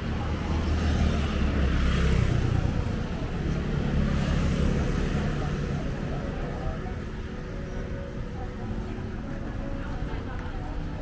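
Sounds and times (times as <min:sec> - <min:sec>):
street background noise: 0:00.0 - 0:11.0.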